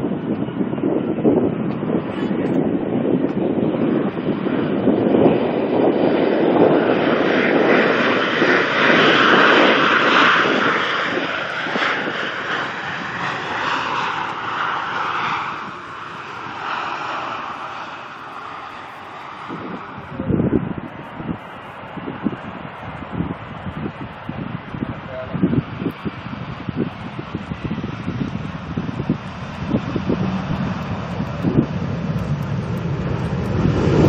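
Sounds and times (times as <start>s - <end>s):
airliner engines passing by: 0.0s - 34.0s.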